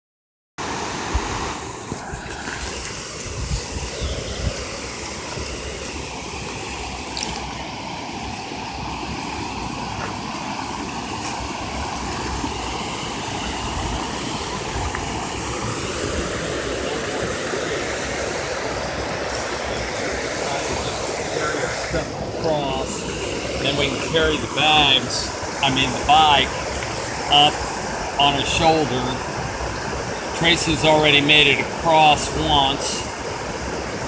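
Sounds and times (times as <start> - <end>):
river water rushing: 0.6 - 34.0.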